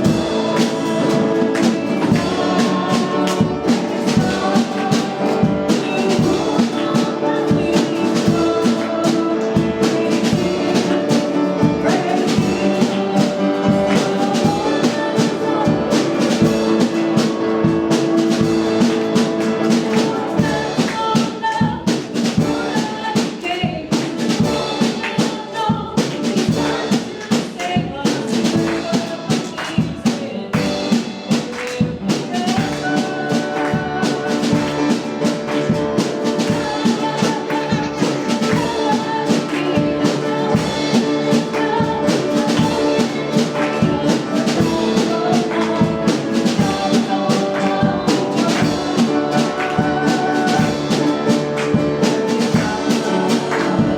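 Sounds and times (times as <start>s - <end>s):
steady drum beat: 0.0s - 53.9s
worship band music: 0.0s - 53.9s.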